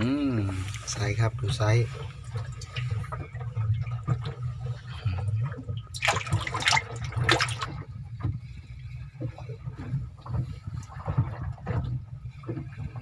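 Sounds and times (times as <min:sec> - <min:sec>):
water splashing with fish: 0:00.0 - 0:13.0.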